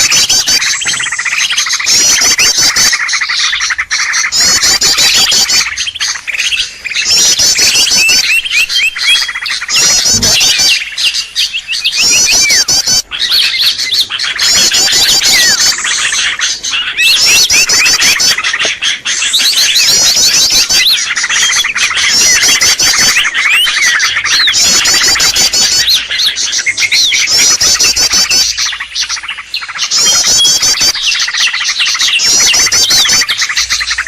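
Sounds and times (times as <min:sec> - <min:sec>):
chatter of chirps and clicks: 0:00.0 - 0:34.0
rapid high bird trills: 0:00.0 - 0:34.0.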